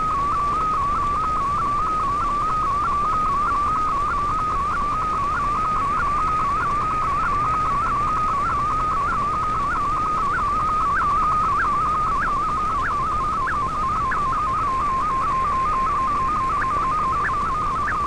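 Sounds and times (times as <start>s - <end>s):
warbling electronic radio tone: 0.0s - 18.0s.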